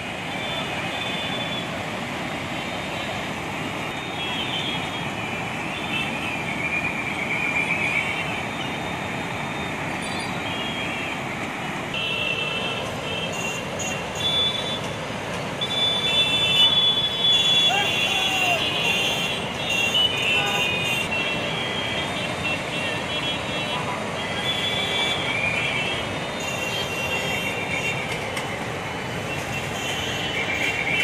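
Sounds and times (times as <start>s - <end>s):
river rushing: 0.0s - 31.0s
traffic on a bridge: 0.0s - 31.0s.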